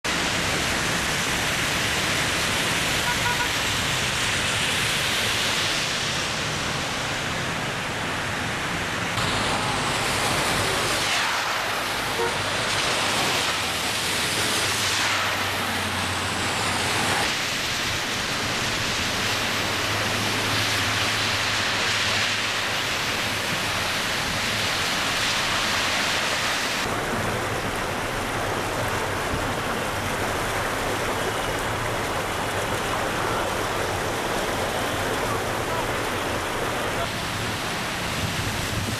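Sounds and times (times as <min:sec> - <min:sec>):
heavy rain hissing: 0:00.1 - 0:38.9
running water: 0:00.1 - 0:38.9.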